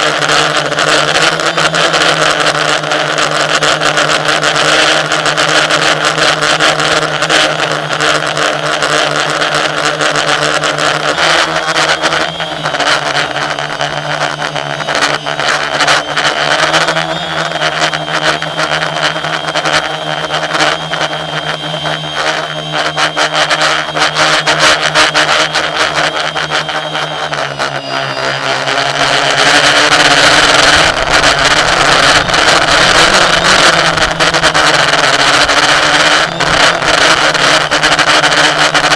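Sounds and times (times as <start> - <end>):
machine motor humming: 0.0 - 38.9
thin high whine: 0.0 - 38.9.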